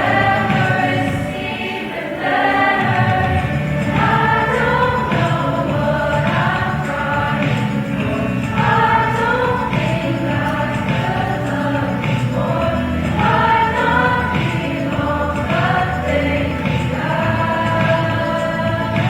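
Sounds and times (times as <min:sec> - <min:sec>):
choir singing: 0:00.0 - 0:19.0
low accompaniment: 0:00.0 - 0:19.0.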